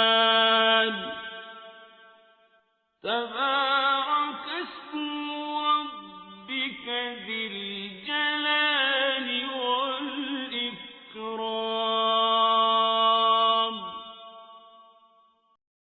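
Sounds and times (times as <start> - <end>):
man chanting melodically: 0.0 - 2.1, 3.1 - 14.6.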